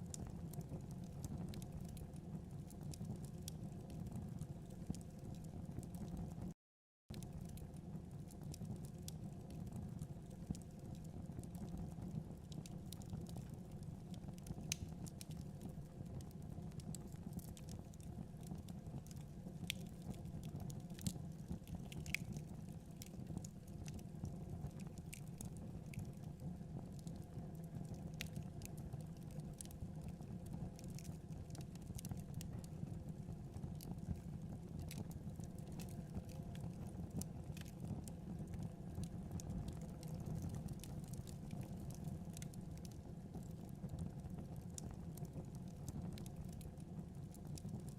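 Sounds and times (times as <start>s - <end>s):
fire crackling and popping: 0.0s - 6.5s, 7.1s - 47.9s
low rumble of flames: 0.0s - 6.5s, 7.1s - 47.9s.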